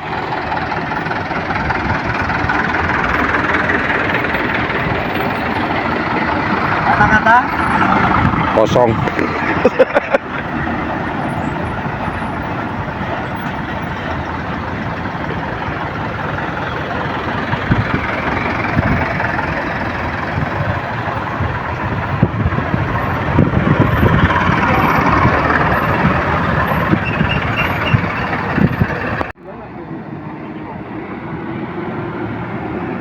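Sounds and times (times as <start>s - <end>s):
buses and trucks in slow traffic: 0.0s - 33.0s.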